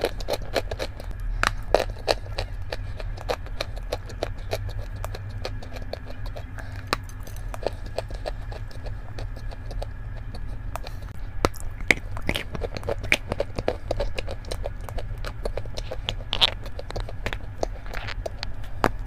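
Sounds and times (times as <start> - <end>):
chalk crunching and crackling: 0.0 - 19.0
steady low hum: 0.0 - 19.0.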